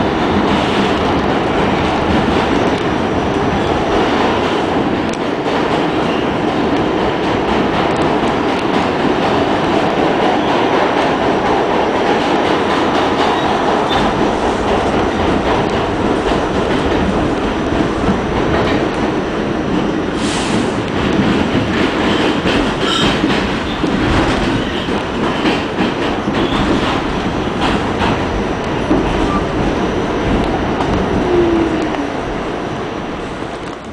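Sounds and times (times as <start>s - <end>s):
subway wheels rumbling on rails: 0.0s - 33.9s
rail joint clicks: 0.1s - 32.5s, 33.3s - 33.9s.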